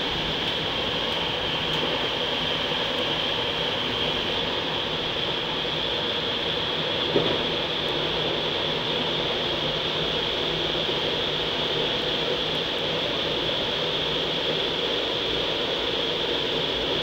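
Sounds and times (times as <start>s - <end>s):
train running through tunnel: 0.0s - 17.0s.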